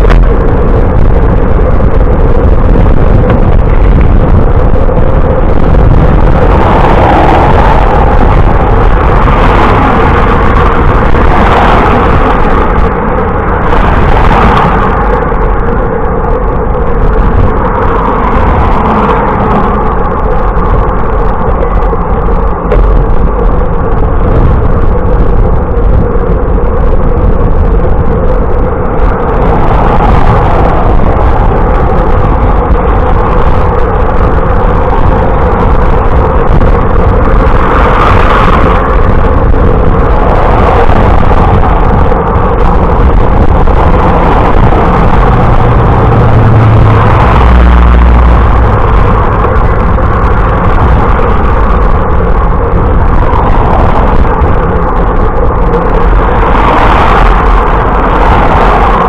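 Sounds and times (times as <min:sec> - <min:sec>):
road noise: 0:00.0 - 0:59.0
wind noise on microphone: 0:00.0 - 0:59.0.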